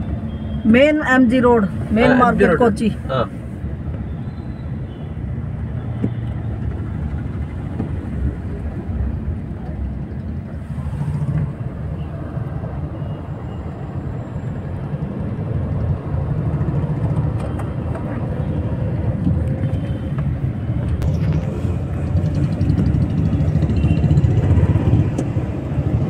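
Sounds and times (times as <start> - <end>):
street traffic rumble: 0.0 - 26.0.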